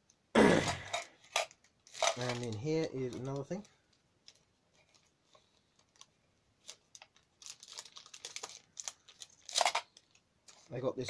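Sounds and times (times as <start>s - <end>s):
crinkly paper packing rustling: 1.2s - 11.0s.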